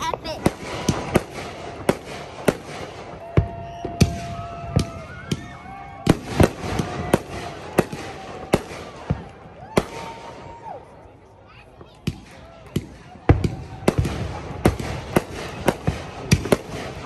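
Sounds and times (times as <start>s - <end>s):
fireworks booming: 0.0s - 10.6s, 11.8s - 17.0s.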